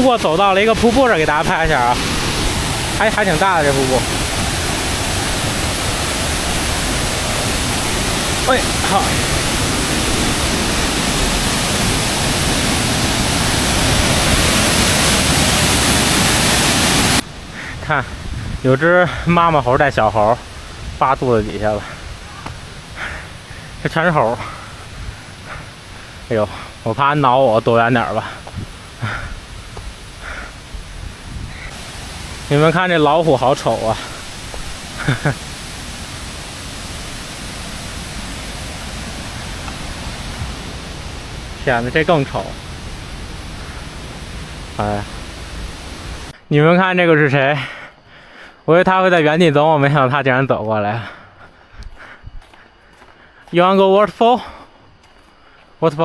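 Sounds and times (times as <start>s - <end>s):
waterfall rushing: 0.0s - 46.4s.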